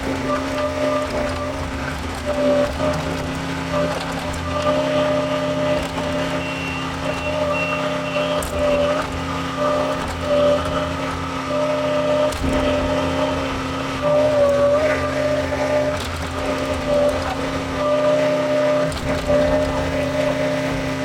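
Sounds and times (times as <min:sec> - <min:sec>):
backhoe diesel engine running: 0:00.0 - 0:21.0.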